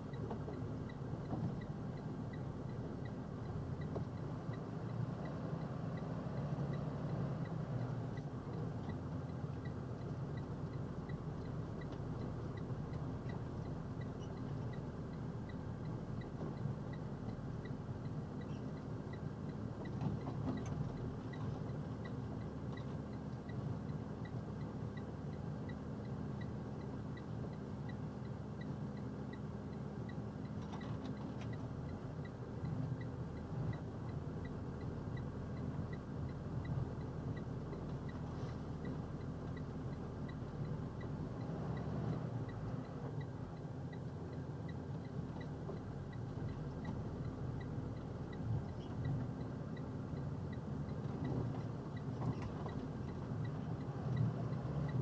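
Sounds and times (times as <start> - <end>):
diesel engine low rumble: 0.0 - 55.0.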